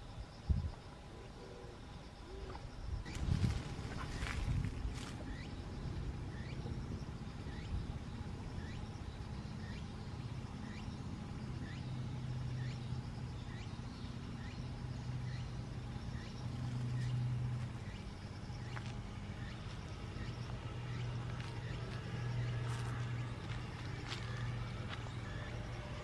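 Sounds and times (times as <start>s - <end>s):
low motor hum: 0.5s - 26.0s.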